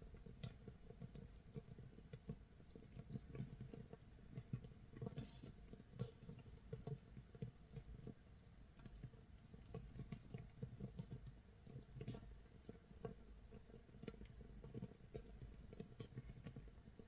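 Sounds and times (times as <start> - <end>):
fermenting mash bubbles popping: 0.0 - 17.0.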